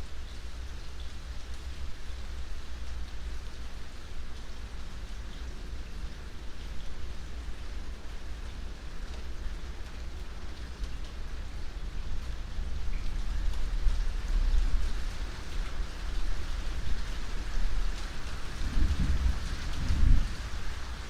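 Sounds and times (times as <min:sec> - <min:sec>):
raindrops ticking on a surface: 0:00.0 - 0:21.0
steady rain hiss: 0:00.0 - 0:21.0.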